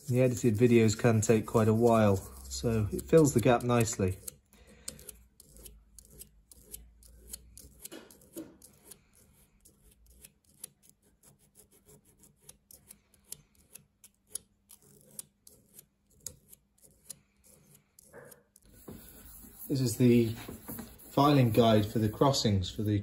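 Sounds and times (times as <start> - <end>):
file scraping steel: 0.0 - 12.8, 14.7 - 23.0.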